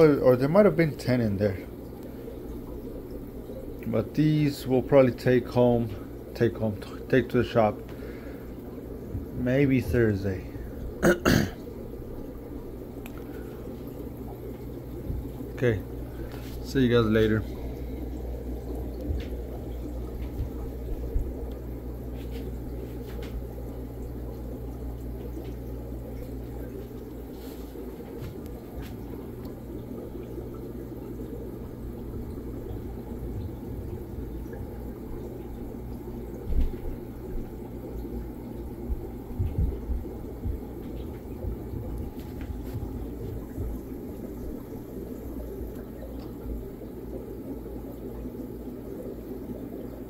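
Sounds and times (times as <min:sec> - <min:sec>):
aquarium water bubbling: 0:00.0 - 0:50.0
low hum: 0:00.0 - 0:50.0.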